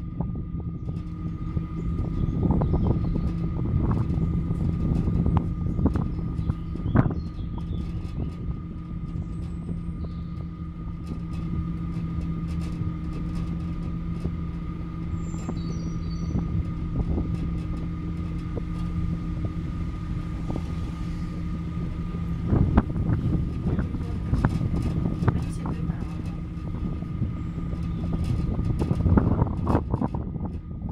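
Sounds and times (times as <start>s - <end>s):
cable car mechanical hum: 0.0s - 30.9s
cable car rattling: 0.0s - 30.9s.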